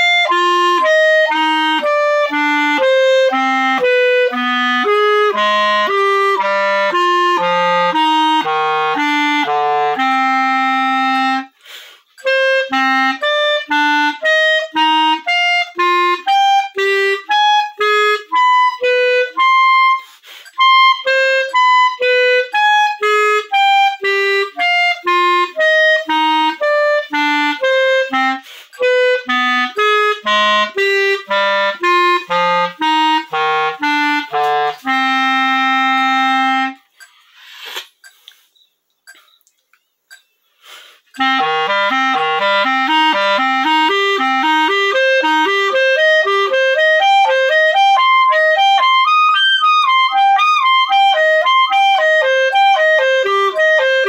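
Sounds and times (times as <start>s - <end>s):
clarinet solo: 0.0s - 37.8s, 41.0s - 54.0s.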